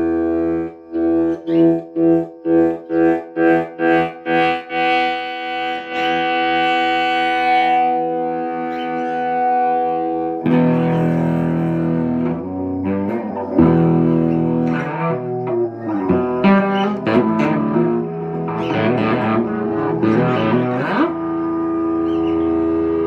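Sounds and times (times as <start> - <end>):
electric guitar playing: 0.0 - 23.0.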